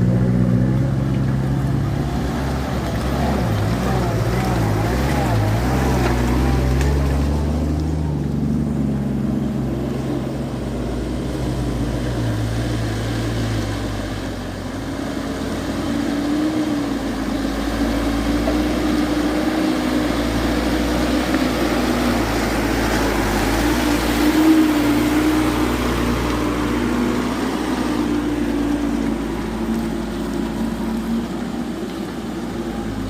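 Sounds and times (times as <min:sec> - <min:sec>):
deep engine hum: 0:00.0 - 0:33.0
higher steady engine note: 0:00.0 - 0:33.0.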